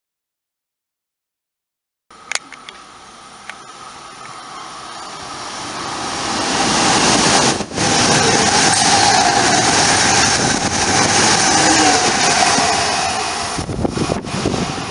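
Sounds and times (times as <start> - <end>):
train rumble and rail noise: 2.2 - 14.9.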